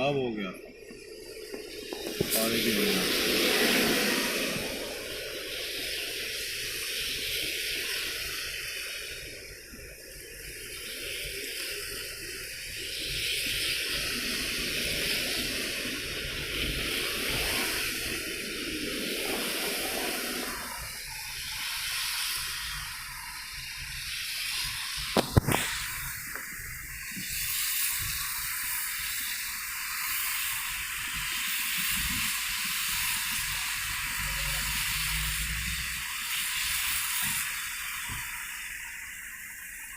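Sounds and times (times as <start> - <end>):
tyres hissing on wet road: 0.0 - 39.9.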